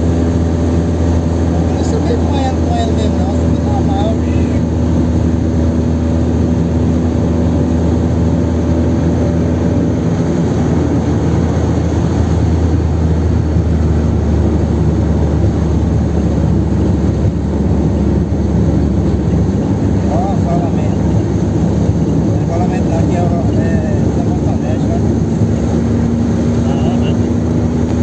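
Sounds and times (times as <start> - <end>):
car engine drone: 0.0 - 28.0
wind noise: 0.0 - 28.0.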